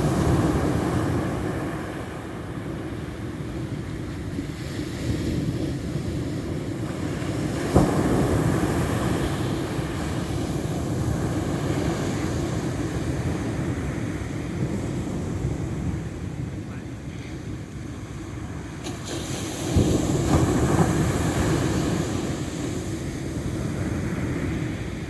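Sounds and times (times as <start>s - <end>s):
ocean surf washing: 0.0s - 25.0s
wind rumbling on microphone: 0.0s - 25.0s.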